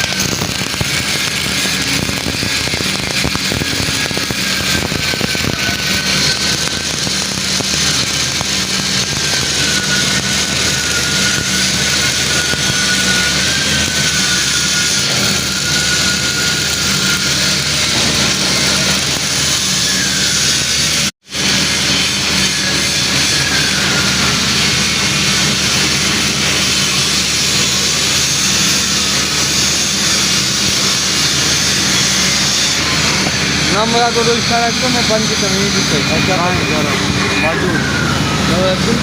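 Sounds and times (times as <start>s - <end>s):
welding arc crackling: 0.0s - 39.0s.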